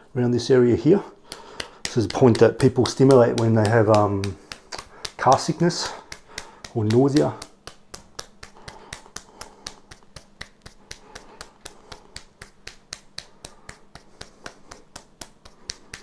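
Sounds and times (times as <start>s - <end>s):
hand slapping forearm: 1.0s - 16.0s.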